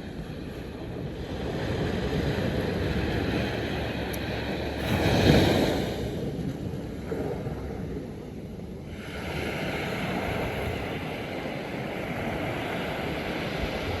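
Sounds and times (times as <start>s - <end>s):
surf washing on sand: 0.0s - 14.0s
wind rumbling on microphone: 0.0s - 14.0s.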